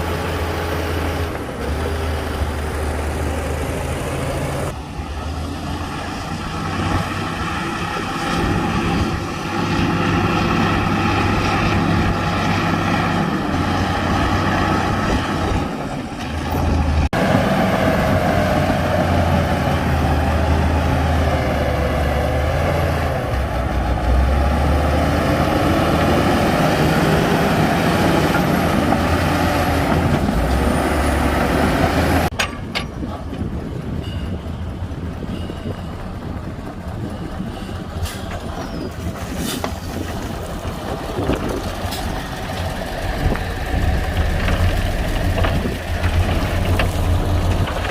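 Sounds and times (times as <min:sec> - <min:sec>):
diesel machinery engine: 0:00.0 - 0:47.9.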